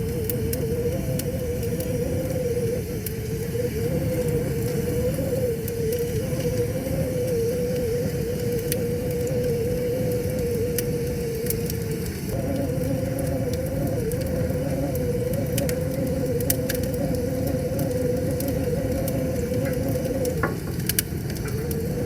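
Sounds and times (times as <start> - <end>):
steady humming tone: 0.0 - 22.0
wood fire crackling and popping: 0.0 - 22.0.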